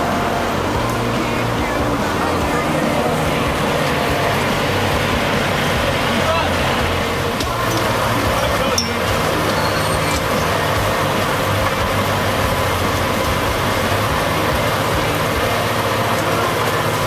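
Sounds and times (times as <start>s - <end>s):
fire engine and pump drone: 0.0s - 17.0s.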